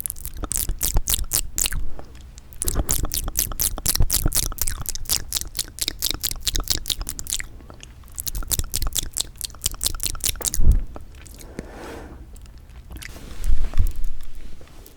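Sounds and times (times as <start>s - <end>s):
wet chewing mouth clicks: 0.0s - 11.6s, 12.3s - 13.1s.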